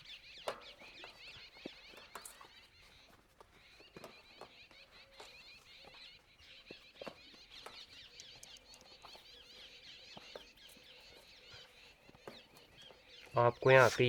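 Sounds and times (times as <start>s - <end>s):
small birds chirping: 0.0s - 14.0s
soft clicks and taps of tyre: 0.4s - 6.0s, 6.6s - 13.0s.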